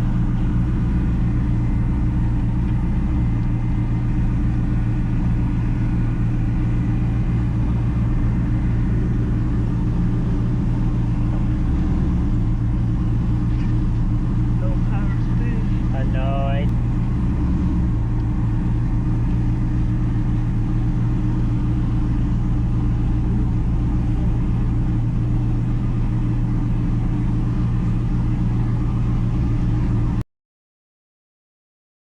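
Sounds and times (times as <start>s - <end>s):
vehicle engine droning: 0.0s - 30.2s.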